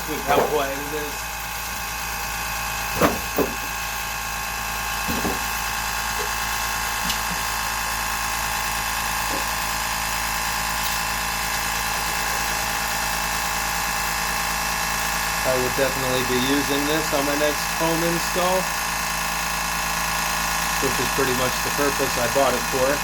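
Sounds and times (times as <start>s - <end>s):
air compressor humming: 0.0s - 23.0s.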